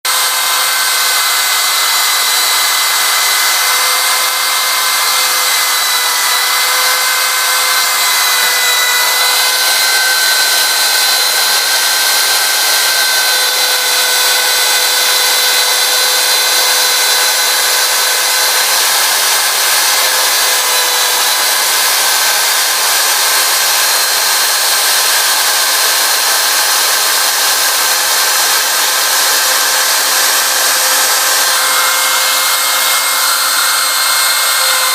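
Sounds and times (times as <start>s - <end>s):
router spindle whining: 0.0s - 34.9s.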